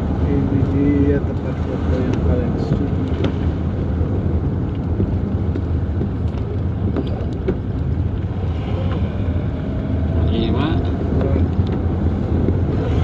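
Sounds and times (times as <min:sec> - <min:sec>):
tyre road noise: 0:00.0 - 0:13.0
vehicle engine: 0:00.0 - 0:13.0
wind on microphone: 0:00.0 - 0:13.0.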